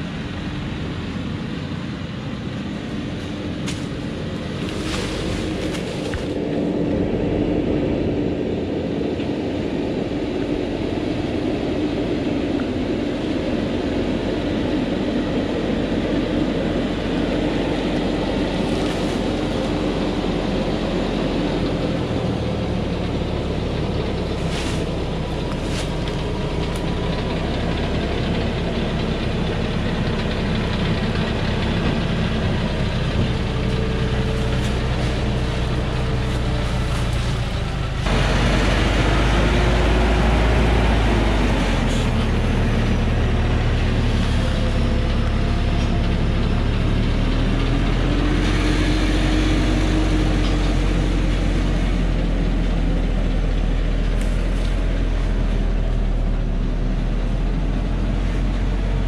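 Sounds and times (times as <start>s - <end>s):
truck diesel engine labouring: 0.0s - 59.0s.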